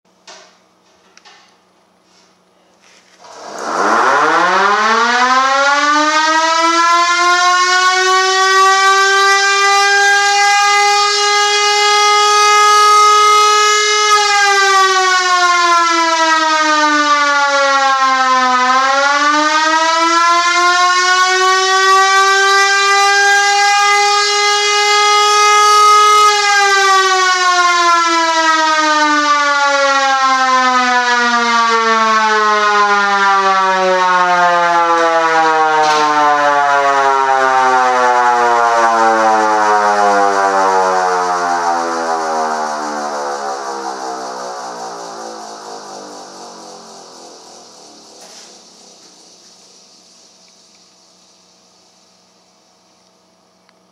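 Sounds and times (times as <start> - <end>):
electric siren wailing: 3.2 - 49.4.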